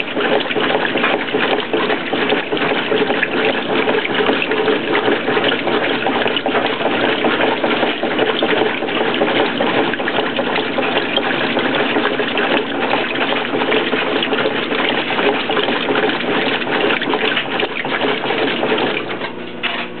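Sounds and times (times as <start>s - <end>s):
water churning in washing machine: 0.0s - 20.0s.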